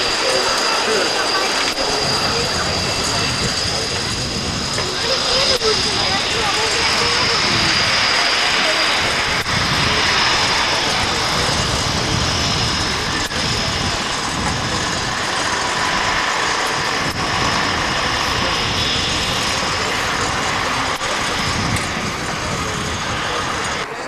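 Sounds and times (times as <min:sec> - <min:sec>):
high turbine whine: 0:00.0 - 0:24.0
jet engine rushing: 0:00.0 - 0:24.0.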